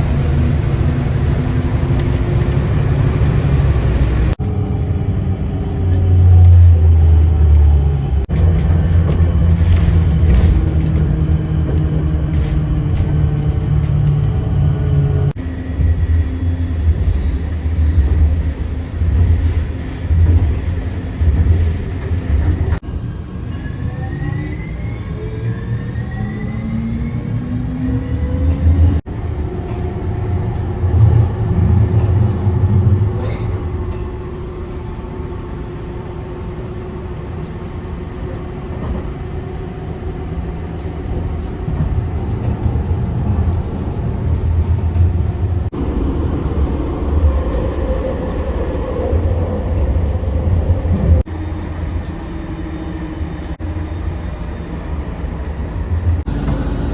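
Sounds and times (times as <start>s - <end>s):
jet airliner cabin drone: 0.0s - 56.9s.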